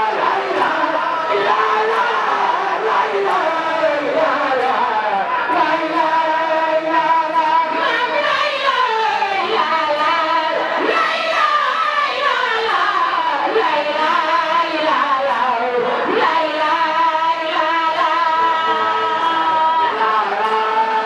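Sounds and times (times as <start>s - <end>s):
women singing a religious chant: 0.0s - 21.0s.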